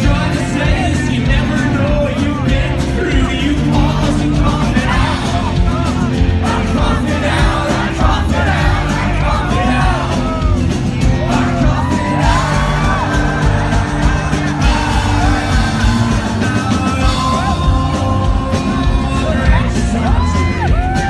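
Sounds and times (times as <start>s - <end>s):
crowd yelling and singing: 0.0s - 21.0s
live rock band playing: 0.0s - 21.0s.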